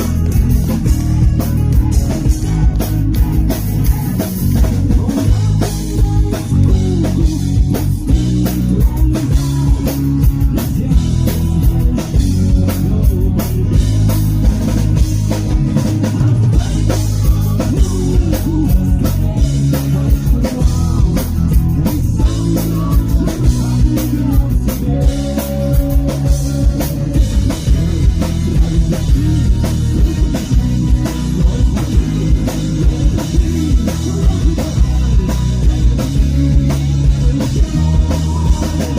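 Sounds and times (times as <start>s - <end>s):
drum kit beat: 0.0s - 38.9s
guitar: 0.0s - 38.9s
live acoustic rock band: 0.0s - 38.9s.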